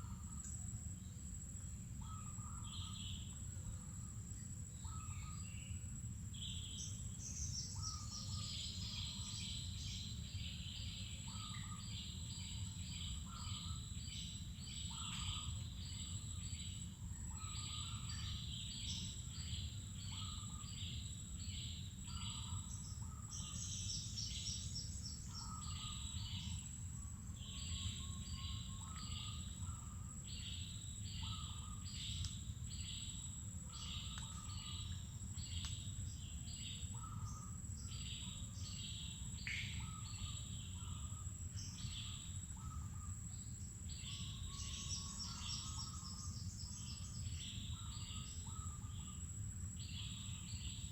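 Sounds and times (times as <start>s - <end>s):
wild birds chirping: 0.0s - 50.9s.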